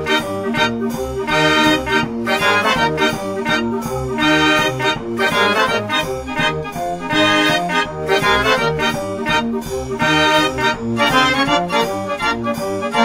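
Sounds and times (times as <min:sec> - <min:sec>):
upbeat accordion and brass music: 0:00.0 - 0:13.0.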